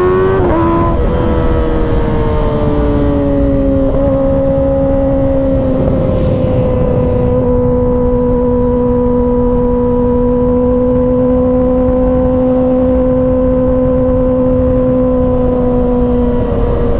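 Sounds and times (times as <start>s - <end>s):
motorcycle engine cruising: 0.0s - 16.9s
wind rush: 0.0s - 16.9s.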